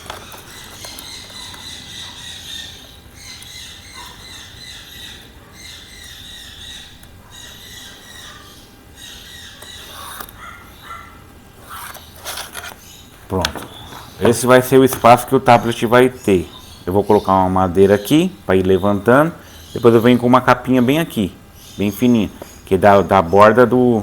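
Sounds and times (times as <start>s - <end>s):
birds chirping and squawking: 0.0s - 24.0s.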